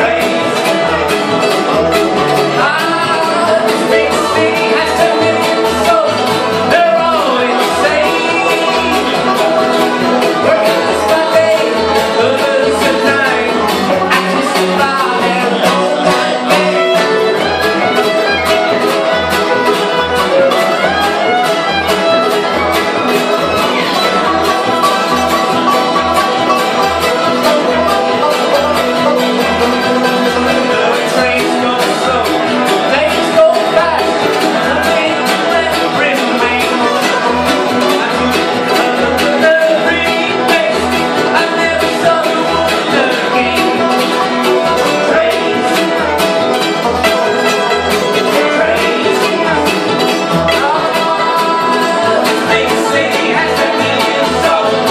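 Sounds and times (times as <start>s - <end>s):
acoustic guitar: 0.0s - 54.9s
banjo: 0.0s - 54.9s
fiddle: 0.0s - 54.9s
mandolin: 0.0s - 54.9s
upright bass: 0.0s - 54.9s.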